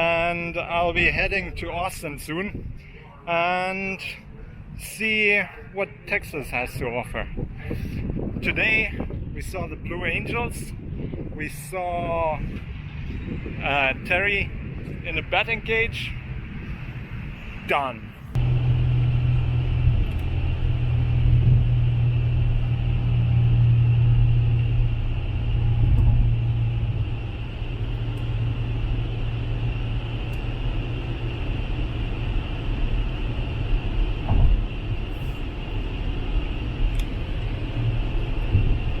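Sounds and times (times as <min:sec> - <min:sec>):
vehicle engine rumble: 0:00.0 - 0:39.0.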